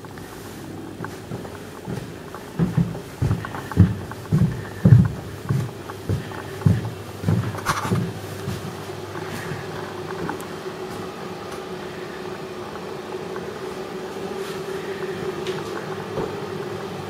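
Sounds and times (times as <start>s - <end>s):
extractor fan humming: 0.0s - 17.0s.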